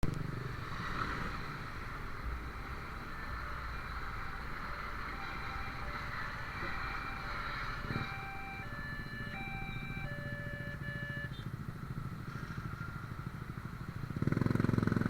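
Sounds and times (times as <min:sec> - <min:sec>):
passing vehicle traffic: 0:00.0 - 0:15.0.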